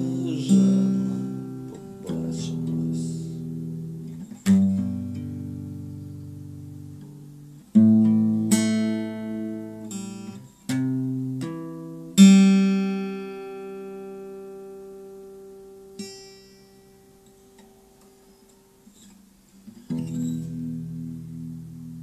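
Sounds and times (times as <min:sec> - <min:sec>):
guitar chords ringing: 0:00.0 - 0:22.0.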